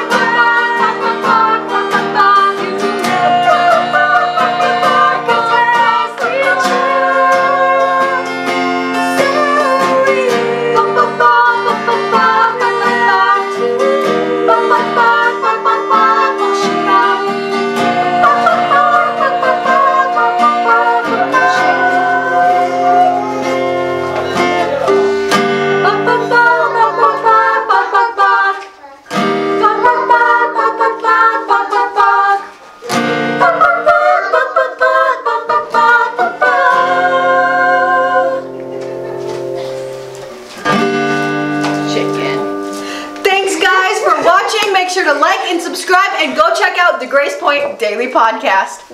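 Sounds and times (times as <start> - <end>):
girls singing together: 0.0 - 40.1, 43.2 - 47.6
strummed acoustic guitar: 0.0 - 47.7.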